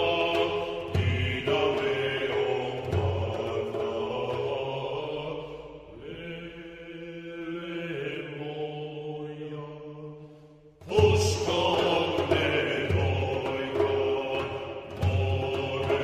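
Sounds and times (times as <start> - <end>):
slow chant-like singing: 0.0 - 16.0.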